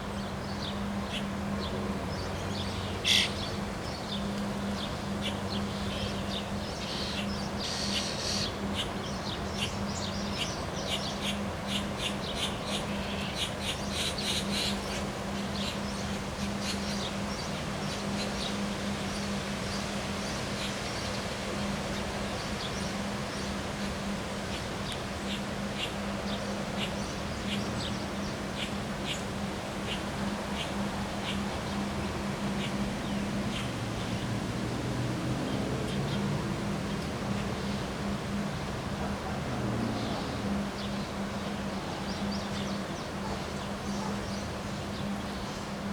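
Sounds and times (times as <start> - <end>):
constant rushing noise: 0.0 - 45.9.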